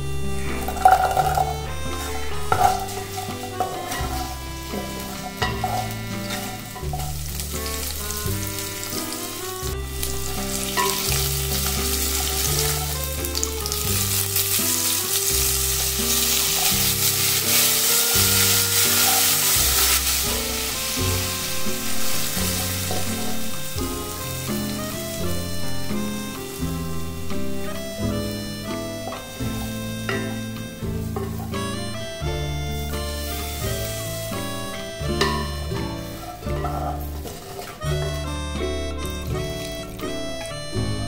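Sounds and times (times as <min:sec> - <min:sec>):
soft music with bass: 0:00.0 - 0:41.0
wooden spatula stirring: 0:00.4 - 0:27.8, 0:32.7 - 0:40.1
food sizzling in hot oil: 0:00.4 - 0:37.9.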